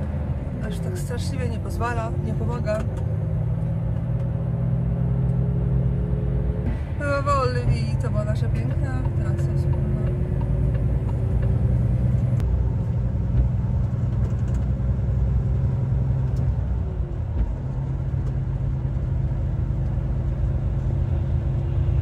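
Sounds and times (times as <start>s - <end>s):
truck engine and tyres droning: 0.0s - 22.0s.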